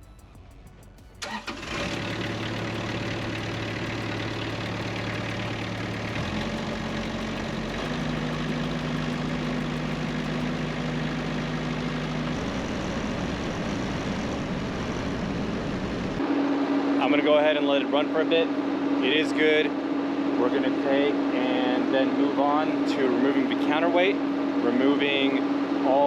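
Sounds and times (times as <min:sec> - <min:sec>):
diesel engine starting and running: 0:00.0 - 0:26.0.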